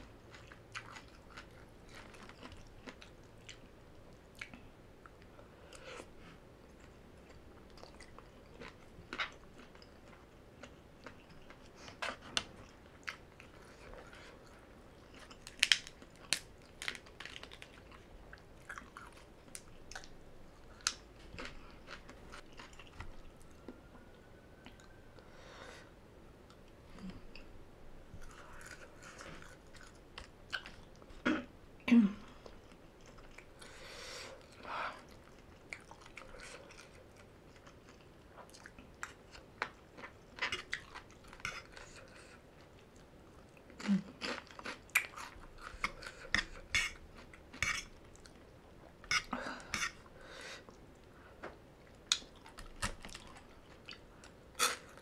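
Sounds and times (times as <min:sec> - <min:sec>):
person chewing crunchy food: 0:00.1 - 0:06.1, 0:06.7 - 0:24.0, 0:28.2 - 0:31.2, 0:34.4 - 0:50.8, 0:51.8 - 0:55.0.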